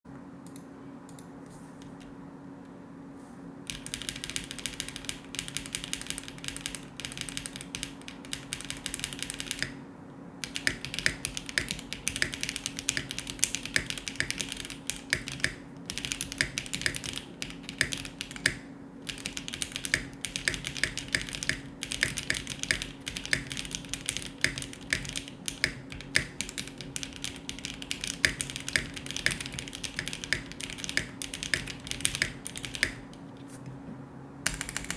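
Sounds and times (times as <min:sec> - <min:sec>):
steady low hum: 0:00.1 - 0:34.9
mechanical keyboard typing: 0:03.7 - 0:09.8, 0:10.4 - 0:33.2, 0:34.5 - 0:34.9.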